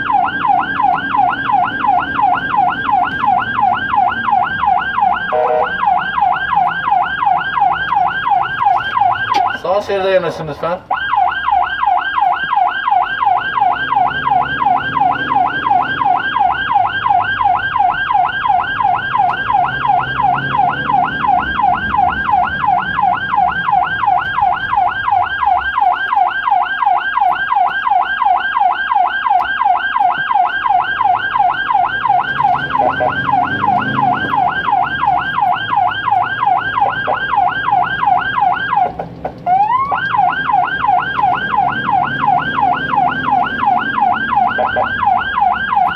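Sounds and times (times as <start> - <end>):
siren yelping: 0.0 - 45.9.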